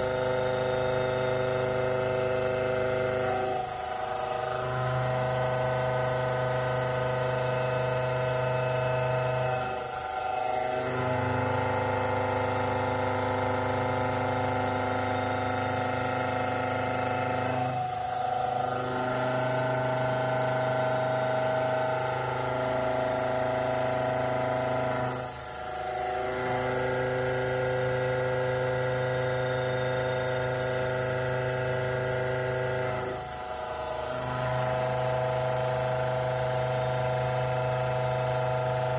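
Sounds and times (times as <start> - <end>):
milling machine cutting steel: 0.0 - 38.9.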